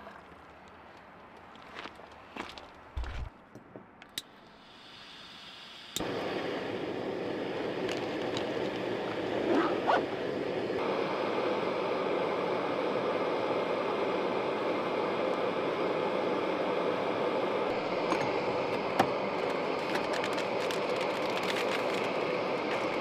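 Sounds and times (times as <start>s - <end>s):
gas stove hissing: 4.3s - 23.0s.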